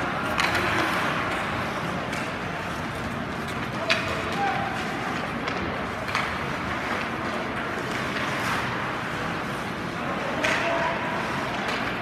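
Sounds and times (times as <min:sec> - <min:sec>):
ice rink ambience: 0:00.0 - 0:12.0
skates scraping ice: 0:00.0 - 0:12.0.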